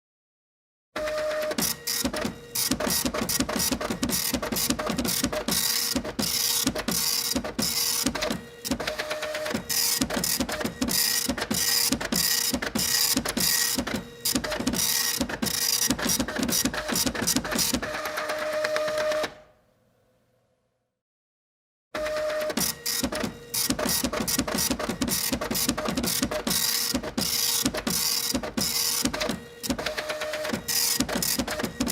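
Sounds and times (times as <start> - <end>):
printer motor whine: 1.0 - 19.4, 22.0 - 31.9
printer rattling: 1.1 - 19.3, 22.2 - 31.9.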